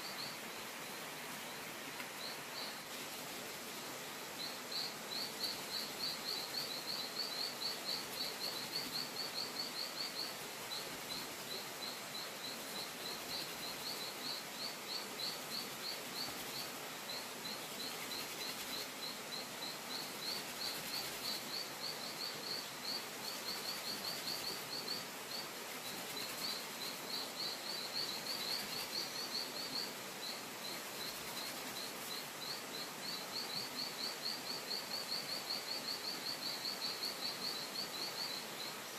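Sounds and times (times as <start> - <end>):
outdoor background hiss: 0.0 - 38.9.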